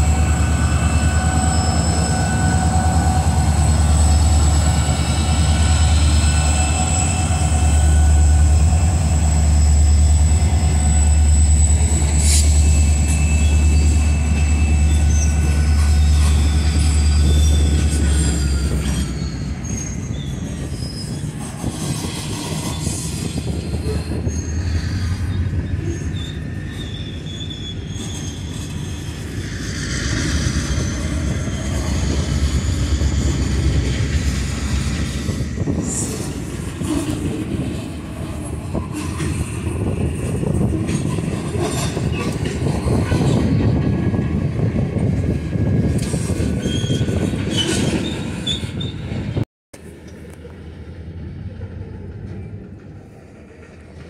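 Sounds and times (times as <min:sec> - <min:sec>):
high-pitched wheel squeal: 0:00.0 - 0:44.2, 0:45.9 - 0:49.3
diesel locomotive engines droning: 0:00.0 - 0:54.0
hopper cars rolling: 0:00.0 - 0:54.0.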